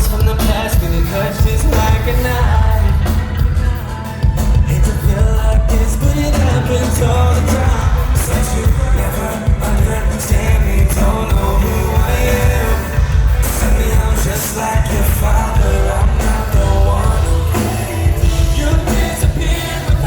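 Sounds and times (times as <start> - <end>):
lead singer singing: 0.0 - 20.0
live band playing: 0.0 - 20.0.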